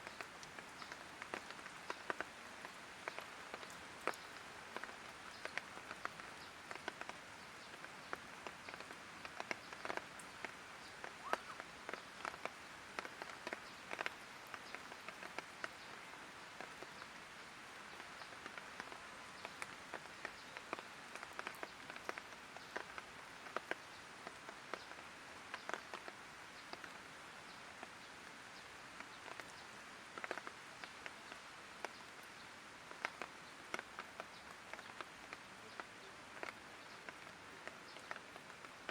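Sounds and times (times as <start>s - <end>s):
light rain hissing: 0.0s - 38.9s.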